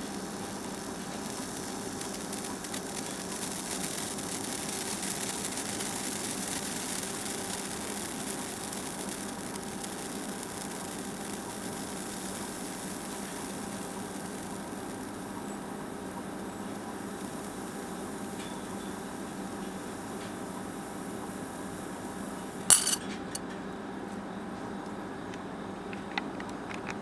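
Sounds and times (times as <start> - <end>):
sparkler crackling: 0.0 - 23.0
steady background hum: 0.0 - 27.0.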